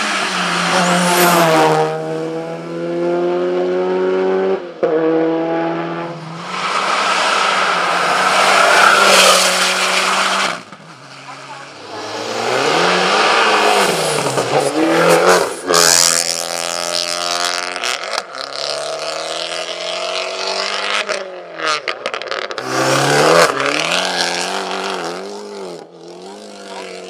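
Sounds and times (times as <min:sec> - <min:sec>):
racing engine at full throttle: 0:00.0 - 0:27.0.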